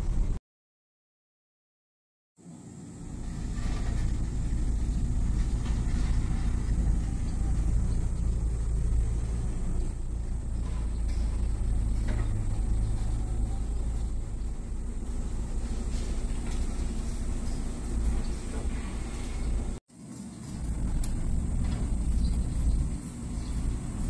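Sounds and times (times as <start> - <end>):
low outdoor rumble: 0.0 - 0.4, 2.4 - 24.0.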